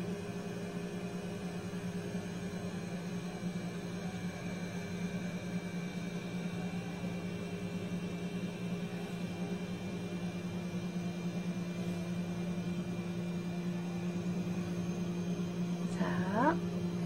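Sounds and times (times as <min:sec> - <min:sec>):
electrical hum with faint whir: 0:00.0 - 0:17.0.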